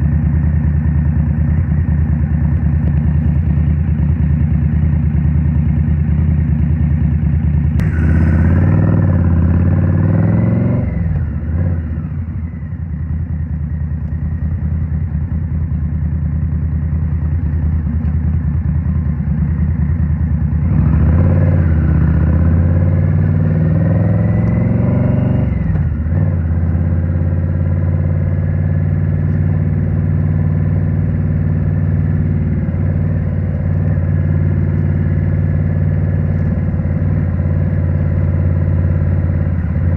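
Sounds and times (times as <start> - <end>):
motorcycle engine revving: 0.0 - 13.1, 19.4 - 39.9.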